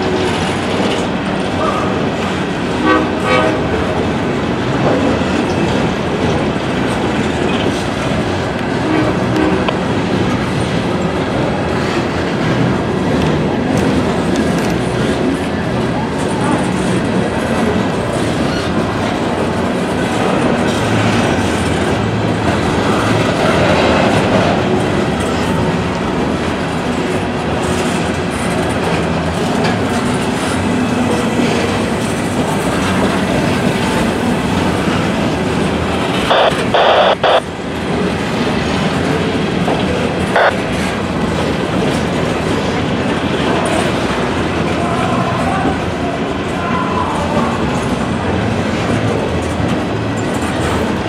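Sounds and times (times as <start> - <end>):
loud banging of rail cars: 0.0 - 51.0
train wheels clacking over rail joints: 0.0 - 51.0.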